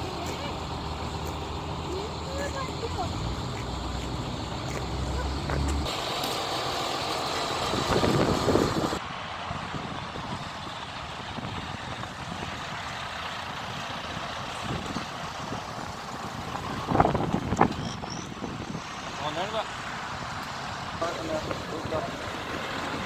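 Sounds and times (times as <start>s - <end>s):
heavy truck engines running: 0.0s - 23.0s.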